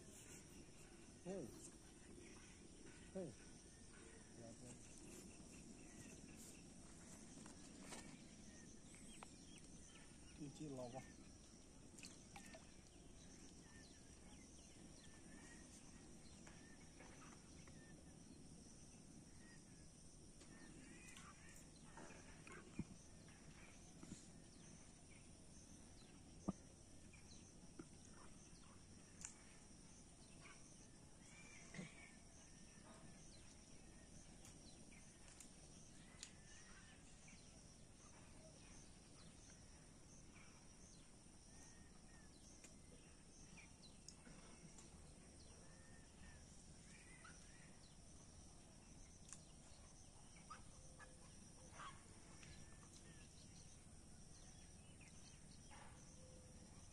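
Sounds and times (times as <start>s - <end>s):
high insect hum: 0.0s - 56.9s.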